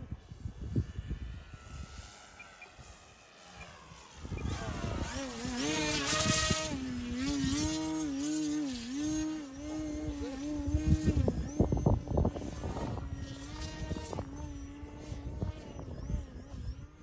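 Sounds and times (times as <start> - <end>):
wind rumble on microphone: 0.0 - 3.0, 3.6 - 17.0
electric model plane motor whining: 0.0 - 17.0.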